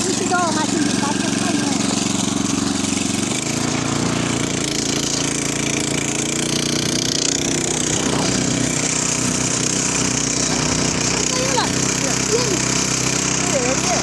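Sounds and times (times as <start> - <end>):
small petrol engine running: 0.0 - 14.0.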